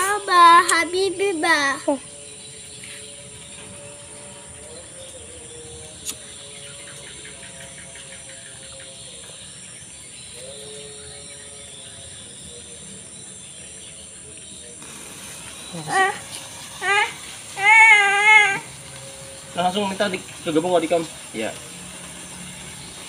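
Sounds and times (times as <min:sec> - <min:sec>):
night insects chirring: 0:00.0 - 0:23.0.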